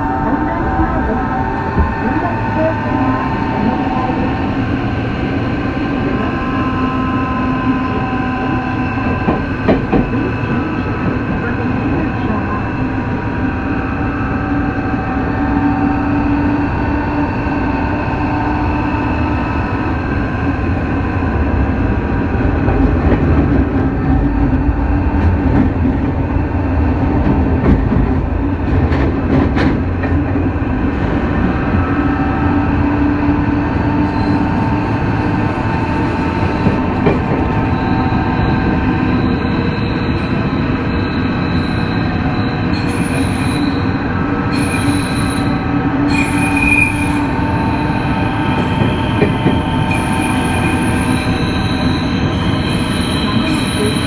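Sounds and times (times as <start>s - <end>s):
subway wheels and motors rumbling: 0.0s - 54.0s.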